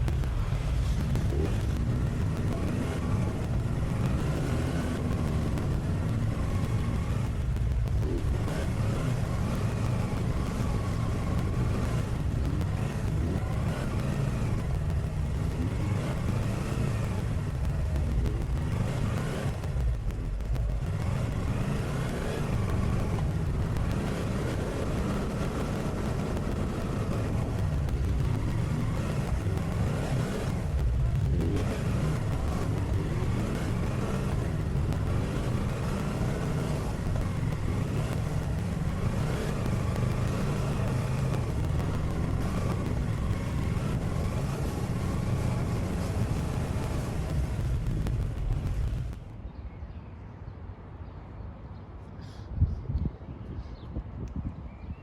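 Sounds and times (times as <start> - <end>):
motorcycle engine revving: 0.0 - 49.5
wind rumble: 0.0 - 51.6, 52.4 - 55.0.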